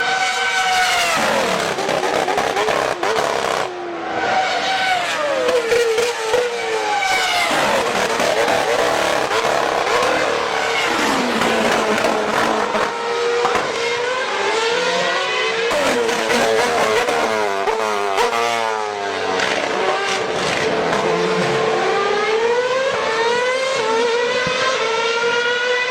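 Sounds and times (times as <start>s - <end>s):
racing engine revving: 0.0s - 25.9s.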